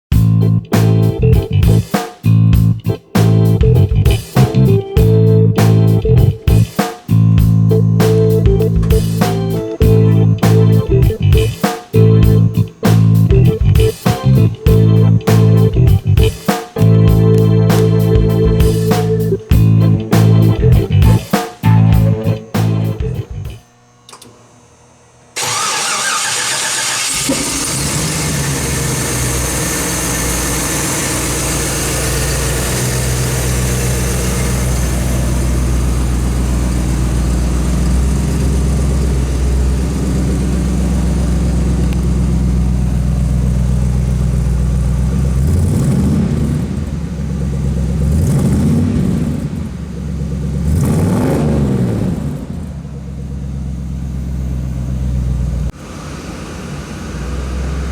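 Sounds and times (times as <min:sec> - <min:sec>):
car engine idling: 0:00.1 - 0:23.6, 0:25.4 - 0:57.9
engine revving: 0:00.1 - 0:23.6, 0:25.4 - 0:57.9
car engine starting: 0:00.1 - 0:24.4, 0:25.4 - 0:57.9.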